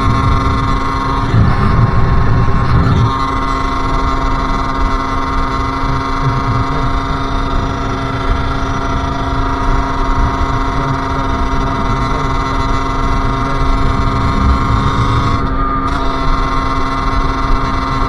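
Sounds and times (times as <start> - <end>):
two-stroke engine running steadily: 0.0 - 18.0.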